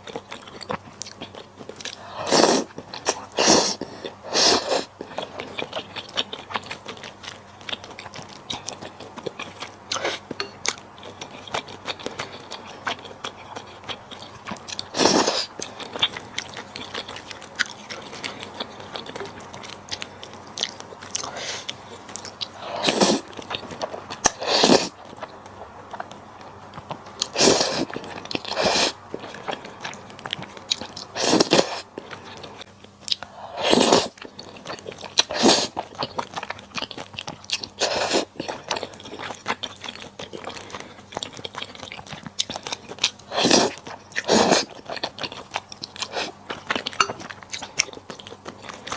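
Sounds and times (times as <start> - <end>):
person chewing: 0.0 - 48.9.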